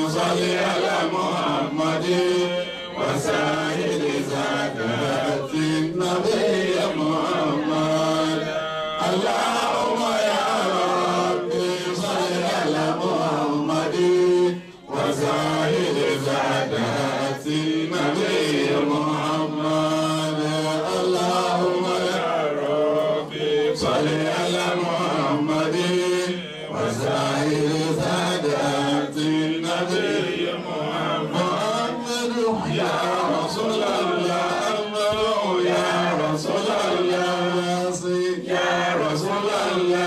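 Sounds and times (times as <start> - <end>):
man chanting through microphone: 0.0 - 40.0.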